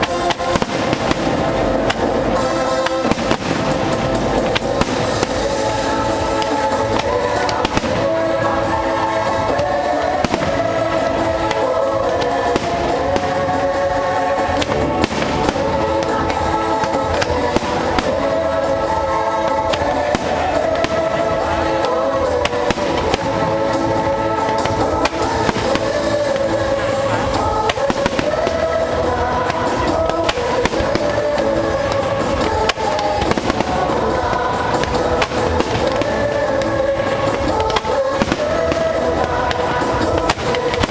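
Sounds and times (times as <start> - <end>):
fireworks bangs: 0.0 - 40.9
loud show music: 0.0 - 40.9.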